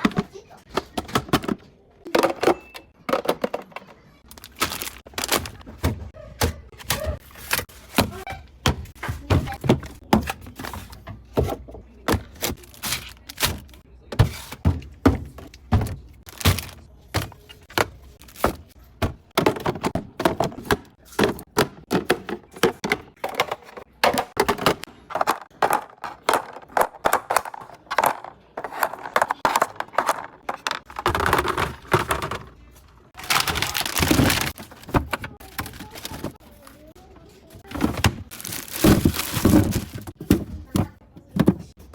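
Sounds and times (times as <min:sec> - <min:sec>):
objects knocking and clattering: 0:00.0 - 0:41.9.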